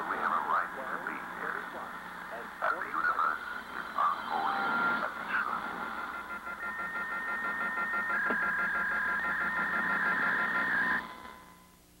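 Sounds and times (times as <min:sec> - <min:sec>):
steady high tones: 0:00.0 - 0:11.7
radio static hiss: 0:00.0 - 0:12.0.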